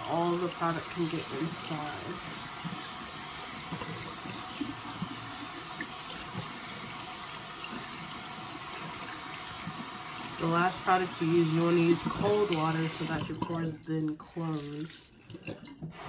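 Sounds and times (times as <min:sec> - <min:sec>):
faucet running into sink: 0:00.0 - 0:16.0.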